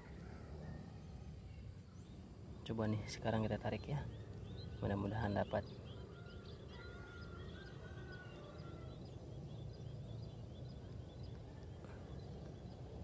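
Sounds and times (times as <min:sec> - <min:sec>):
outdoor background noise: 0:00.0 - 0:13.0
small birds chirping: 0:00.8 - 0:13.0.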